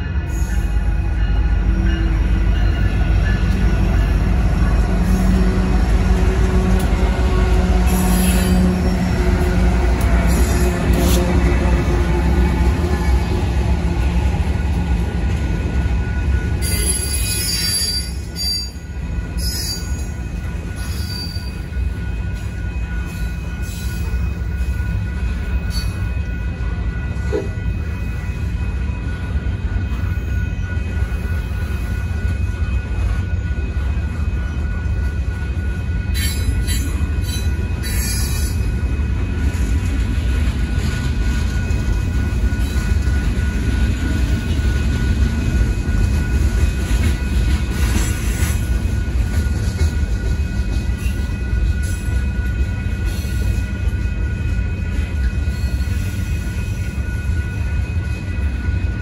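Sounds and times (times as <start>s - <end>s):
high-pitched metallic squeals: 0.0s - 14.8s, 15.8s - 59.0s
train wheels rumbling on rail: 0.0s - 59.0s.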